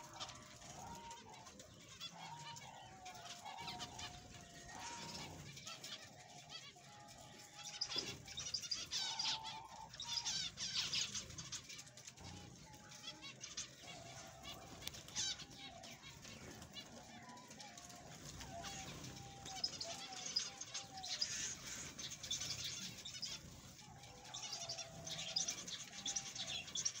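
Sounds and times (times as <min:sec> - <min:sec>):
finches chirping: 0:02.0 - 0:27.0.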